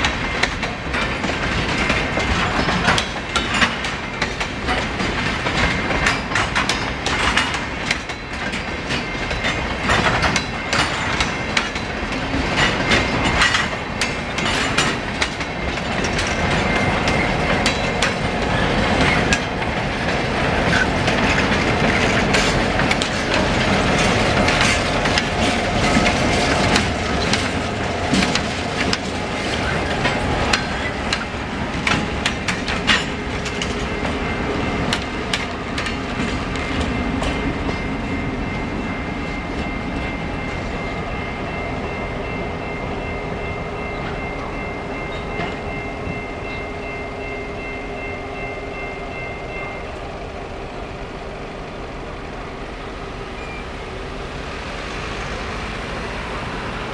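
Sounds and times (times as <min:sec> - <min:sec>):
train wheels clicking on rail joints: 0:00.0 - 0:50.2
crossing bell ringing: 0:00.0 - 0:56.9
freight train passing: 0:00.0 - 0:56.9.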